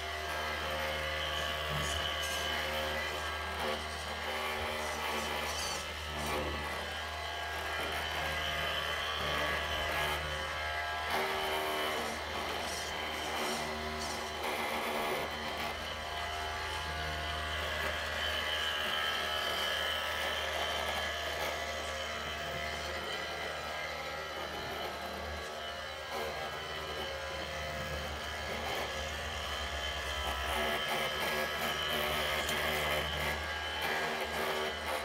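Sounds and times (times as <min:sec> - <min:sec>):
small electric motors whining: 0:00.0 - 0:35.0.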